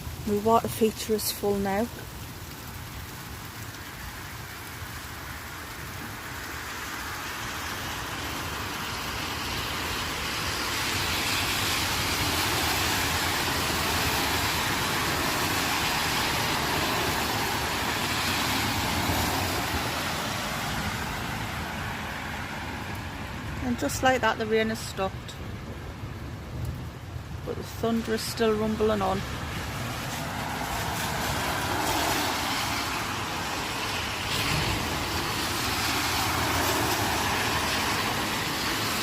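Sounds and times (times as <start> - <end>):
light rain: 0.0 - 39.0
tyres hissing on wet road: 0.0 - 39.0.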